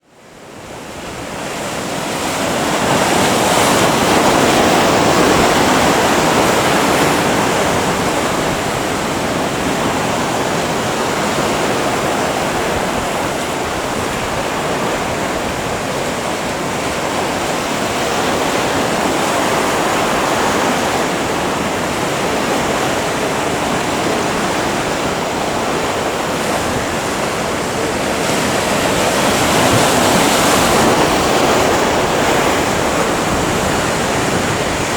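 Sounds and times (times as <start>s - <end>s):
surf breaking: 1.8s - 34.9s.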